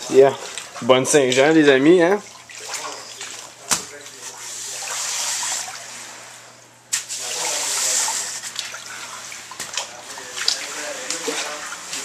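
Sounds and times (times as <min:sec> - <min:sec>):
push broom splashing water: 0:00.0 - 0:06.1, 0:06.9 - 0:12.0.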